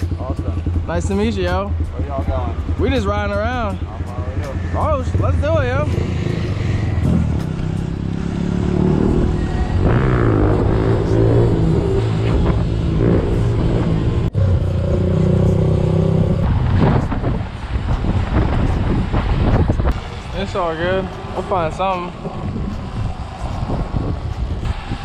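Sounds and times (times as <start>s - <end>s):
traffic engines humming: 0.0s - 25.0s.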